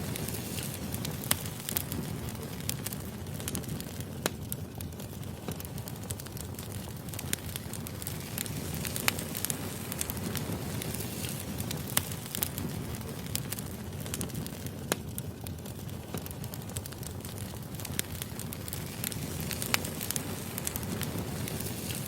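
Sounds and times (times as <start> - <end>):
fire crackling and popping: 0.0 - 22.0
flame rushing: 0.0 - 22.0.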